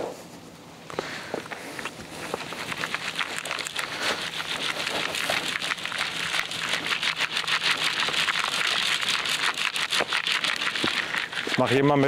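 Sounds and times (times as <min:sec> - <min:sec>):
soil rattling through sieve mesh: 0:02.0 - 0:12.0.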